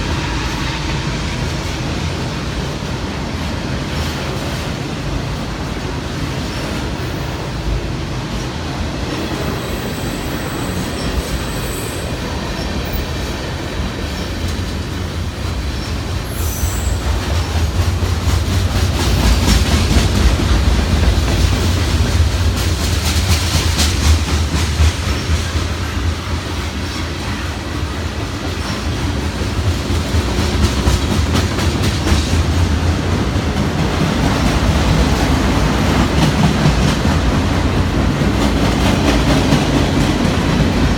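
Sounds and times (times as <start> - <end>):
train wheels clacking over rail: 0.0 - 40.9.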